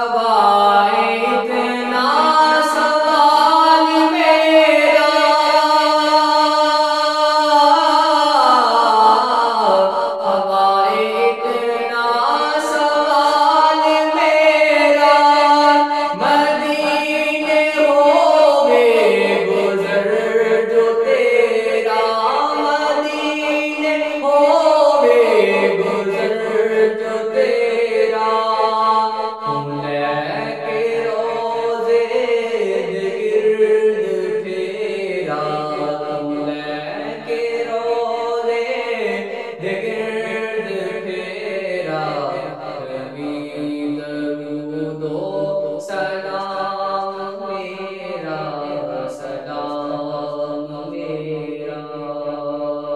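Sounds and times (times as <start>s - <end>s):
man singing devotional song: 0.0s - 52.9s.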